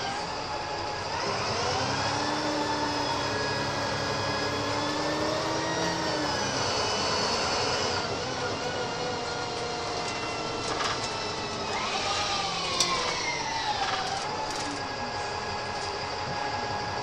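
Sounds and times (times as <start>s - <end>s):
bus diesel engine under power: 0.0s - 17.0s.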